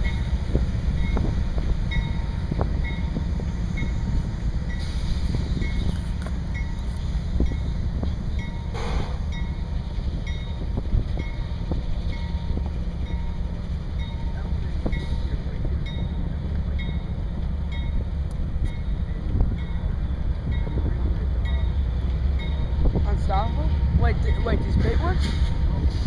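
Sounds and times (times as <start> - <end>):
diesel locomotive engines rumbling: 0.0 - 26.0.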